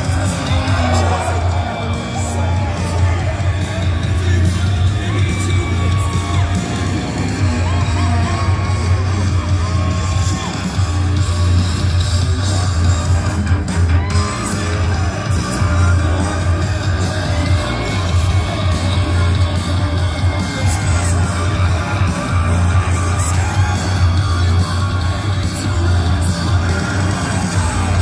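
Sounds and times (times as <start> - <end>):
loud music from loudspeakers: 0.0 - 28.0
low bass line: 0.0 - 28.0
singing voice: 0.0 - 28.0.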